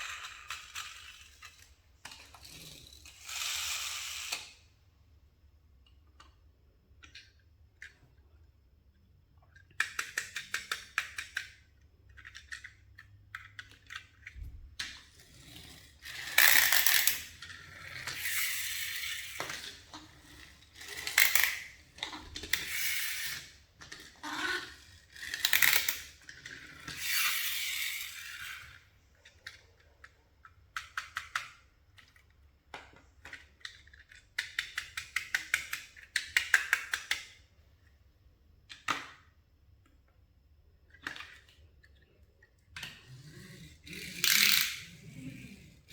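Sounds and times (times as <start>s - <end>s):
plastic toys clicking and clattering: 0.0s - 4.7s, 9.5s - 37.5s, 40.8s - 45.9s.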